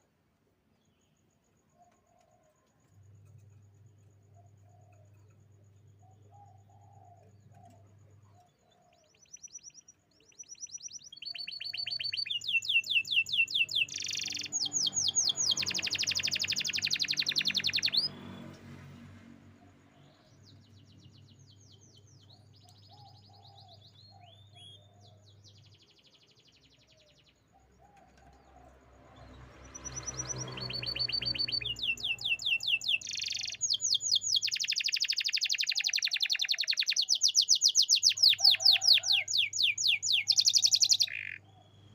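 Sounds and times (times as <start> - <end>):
soft chirps: 0.7 - 18.6, 19.9 - 41.9
canary singing trills: 3.2 - 18.6, 19.8 - 41.9.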